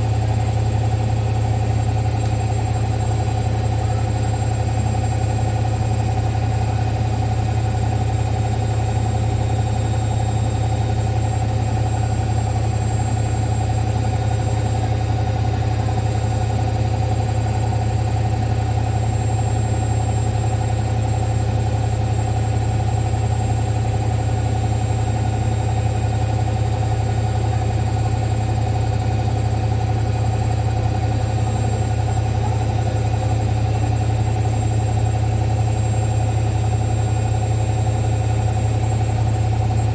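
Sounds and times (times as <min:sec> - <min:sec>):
washing machine spin cycle: 0:00.0 - 0:39.9.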